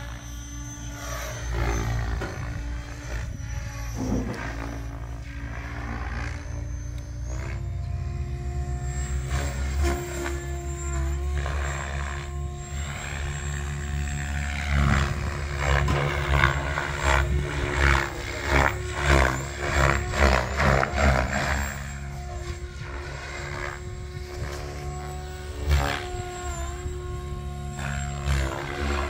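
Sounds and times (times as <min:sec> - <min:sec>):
rc helicopter rotor whine: 0:00.0 - 0:29.0.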